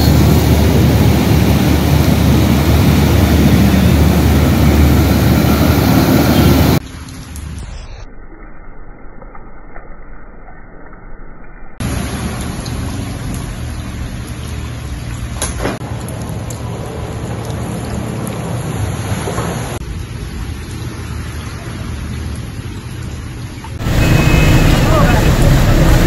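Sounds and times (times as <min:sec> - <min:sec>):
heavy rain on standing water: 0:00.0 - 0:07.8, 0:11.8 - 0:26.0.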